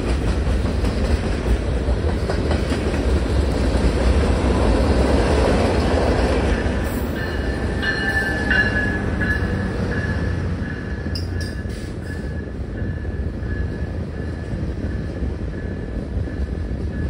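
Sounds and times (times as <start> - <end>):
freight train rumble and wheel clatter: 0.0 - 17.0.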